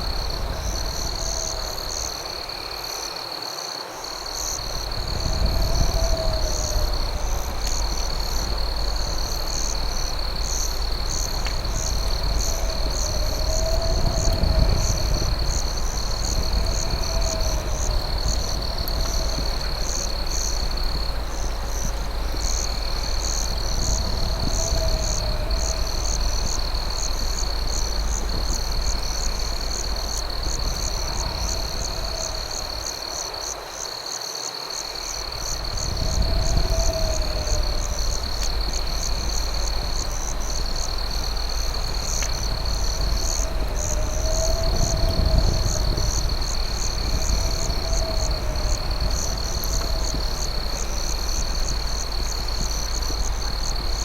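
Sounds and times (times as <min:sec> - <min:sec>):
low rumbling noise: 0:00.0 - 0:02.8, 0:04.1 - 0:33.5, 0:35.2 - 0:54.0
crickets chirping: 0:00.0 - 0:54.0.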